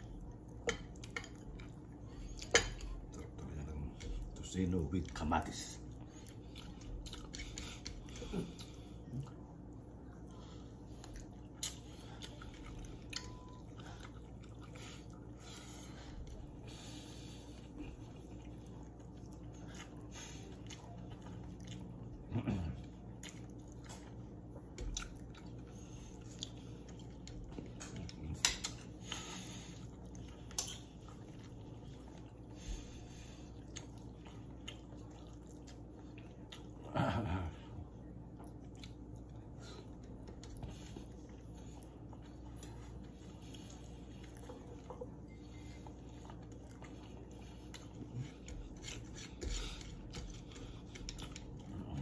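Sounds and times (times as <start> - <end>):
people chewing: 0.0 - 52.0.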